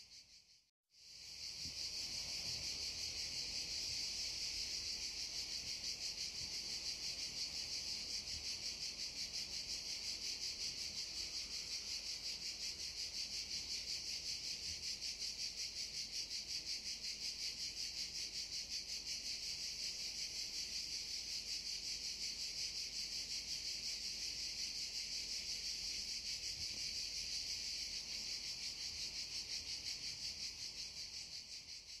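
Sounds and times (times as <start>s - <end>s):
cicadas buzzing: 0.1s - 32.0s.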